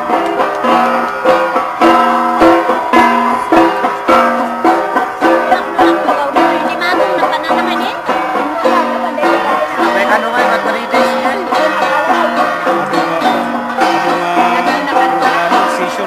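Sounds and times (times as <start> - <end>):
bronze gongs struck rhythmically: 0.0 - 16.0.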